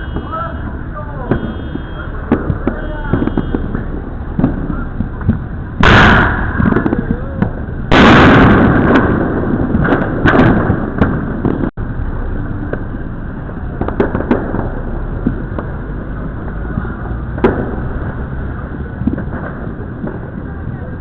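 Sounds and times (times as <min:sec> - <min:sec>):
distant fireworks rumble: 0:00.0 - 0:21.0
loud firework blast: 0:00.0 - 0:21.0
firecracker cracks and pops: 0:01.1 - 0:11.8, 0:12.6 - 0:21.0.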